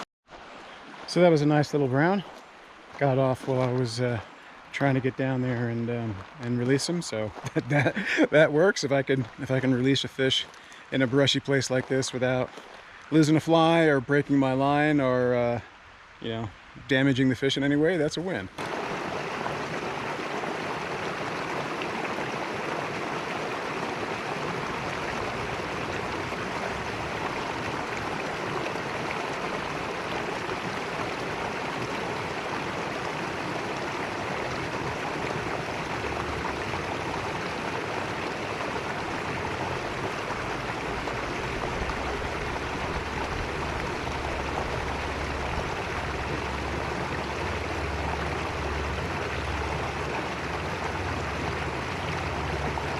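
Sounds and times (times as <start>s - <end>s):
creek running over rocks: 0.0s - 52.9s.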